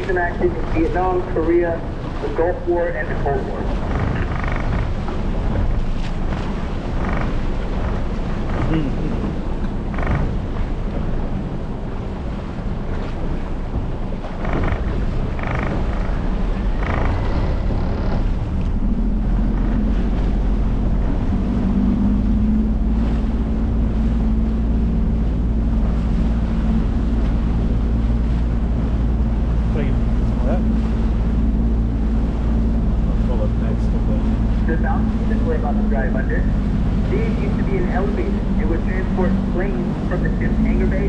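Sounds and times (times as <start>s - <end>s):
outboard motor running: 0.0s - 41.0s
water rushing past: 0.0s - 41.0s
wind buffeting microphone: 0.0s - 41.0s.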